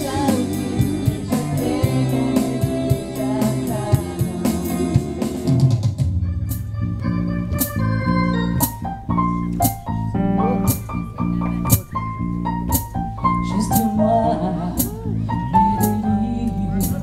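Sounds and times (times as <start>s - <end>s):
live band playing: 0.0s - 17.0s
organ-like keyboard chords: 0.0s - 17.0s.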